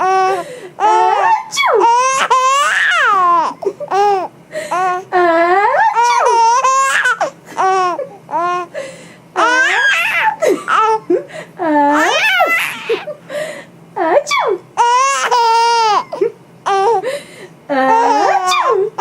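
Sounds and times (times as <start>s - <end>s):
baby laughing and babbling: 0.0s - 8.7s, 9.4s - 13.2s, 14.3s - 17.1s, 17.7s - 19.0s.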